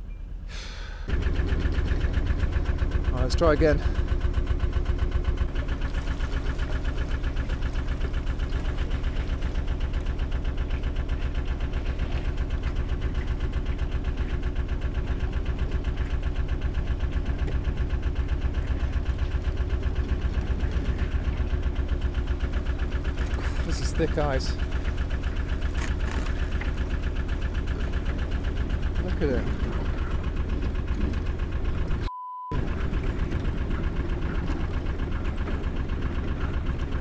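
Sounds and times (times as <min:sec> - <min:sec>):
boat diesel engine thudding: 0:00.3 - 0:37.0.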